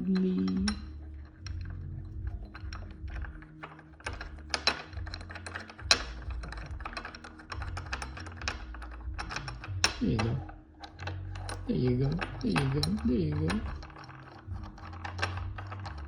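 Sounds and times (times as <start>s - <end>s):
metal bolt clicking in thread: 0.0s - 16.0s.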